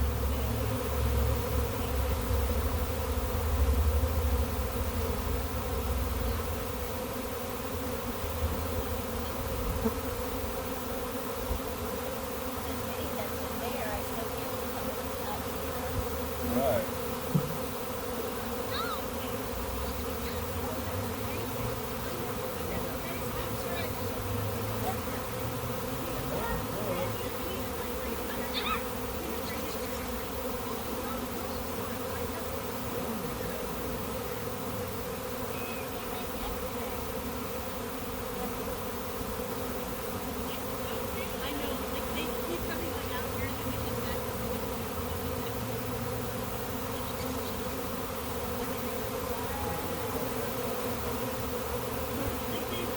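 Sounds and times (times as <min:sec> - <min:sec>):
bee swarm buzzing: 0:00.0 - 0:52.9.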